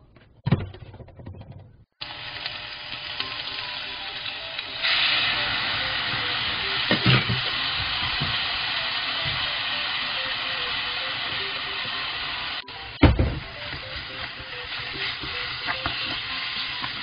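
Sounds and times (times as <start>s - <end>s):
pork sizzling in wok: 2.0s - 17.0s.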